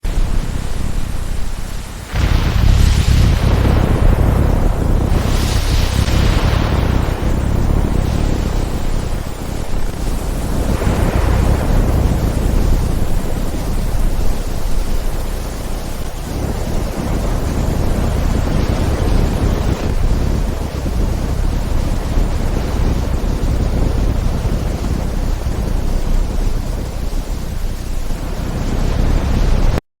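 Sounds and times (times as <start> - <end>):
steady noisy wash: 0.0 - 29.8
thunder rumbling: 0.0 - 29.8.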